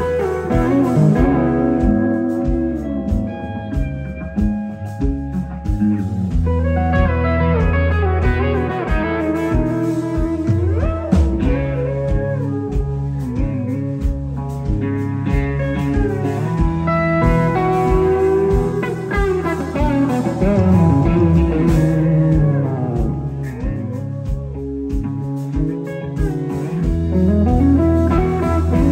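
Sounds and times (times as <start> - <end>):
bass guitar: 0.0 - 28.9
electric guitar lead: 0.0 - 28.9
steady drum beat: 0.0 - 28.9.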